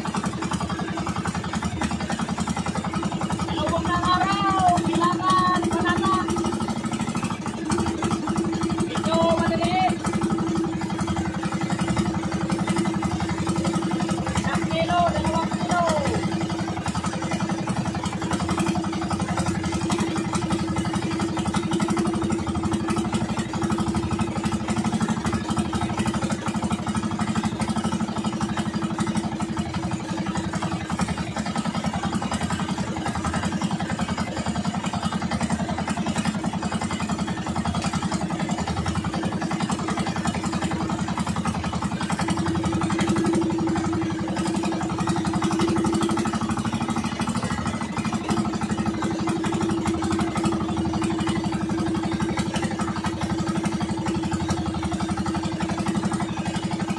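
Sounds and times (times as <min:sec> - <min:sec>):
boat engine running: 0:00.0 - 0:56.9.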